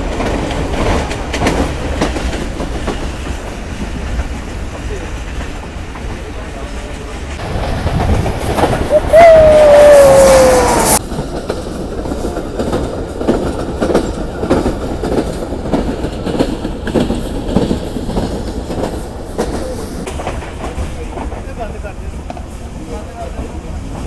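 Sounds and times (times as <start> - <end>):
train rumble: 0.0 - 24.0
wheels clattering over rails: 0.0 - 24.0.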